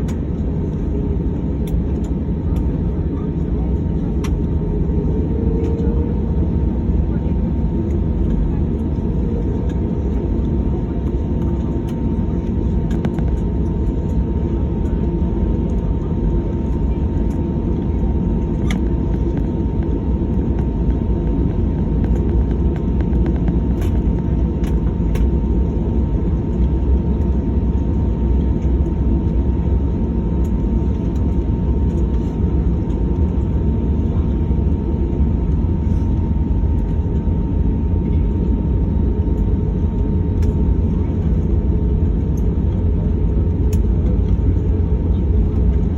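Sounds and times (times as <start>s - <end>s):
airliner engine rumble: 0.0s - 45.9s.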